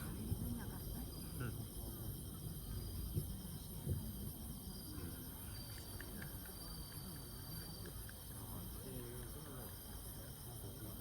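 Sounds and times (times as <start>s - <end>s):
faint low murmur: 0.0s - 11.0s
insects trilling: 0.0s - 11.0s.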